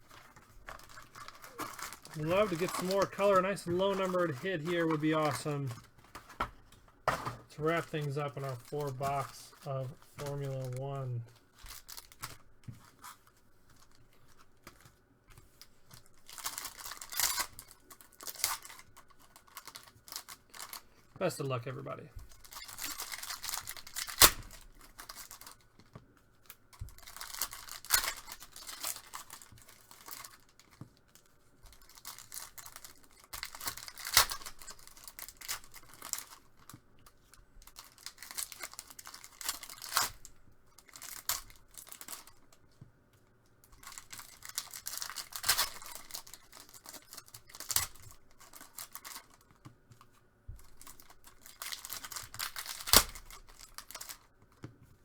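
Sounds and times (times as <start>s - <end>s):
foil wrappers tearing and crinkling: 0.0s - 25.8s, 26.4s - 42.6s, 43.7s - 49.5s, 50.1s - 54.3s.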